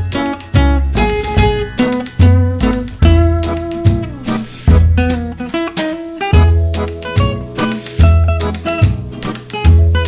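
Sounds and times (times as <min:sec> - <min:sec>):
bouncing bass line: 0:00.0 - 0:10.0
plucked guitar: 0:00.0 - 0:10.0
upbeat swing music: 0:00.0 - 0:10.0
steady beat: 0:00.1 - 0:10.0.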